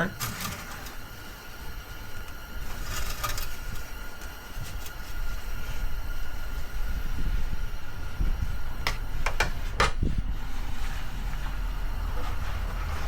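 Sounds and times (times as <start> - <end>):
low steady rumble: 1.6 - 13.0.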